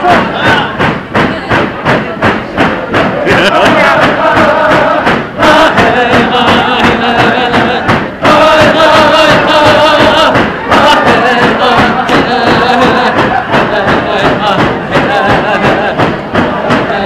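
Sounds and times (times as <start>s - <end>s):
frame drums beating: 0.0s - 17.0s
people singing a drum-dance song: 0.0s - 17.0s.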